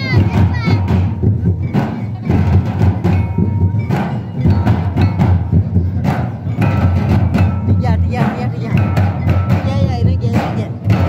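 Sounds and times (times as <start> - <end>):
barrel drums beaten: 0.0 - 11.0.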